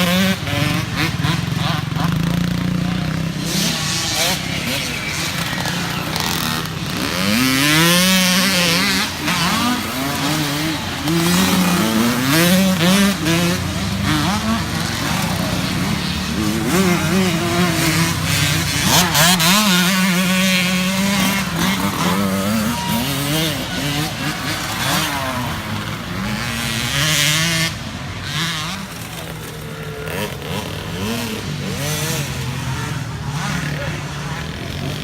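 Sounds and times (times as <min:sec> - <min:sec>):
dirt bike engines revving: 0:00.0 - 0:35.0.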